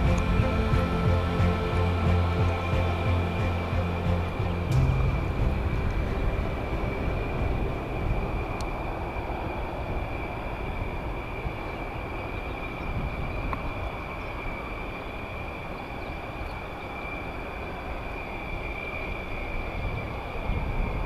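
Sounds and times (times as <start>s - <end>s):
jet engine rumble and whine: 0.0s - 21.0s.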